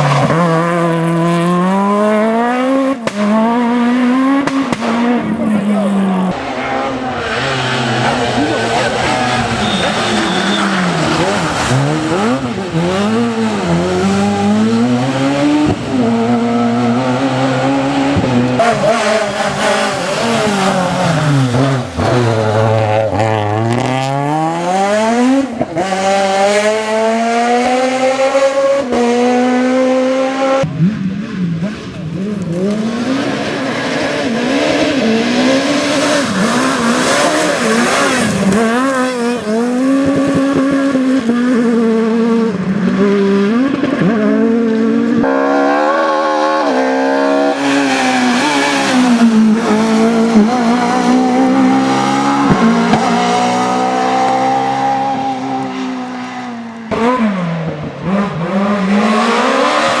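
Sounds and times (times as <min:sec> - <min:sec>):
rally car engines revving: 0:00.0 - 1:00.0.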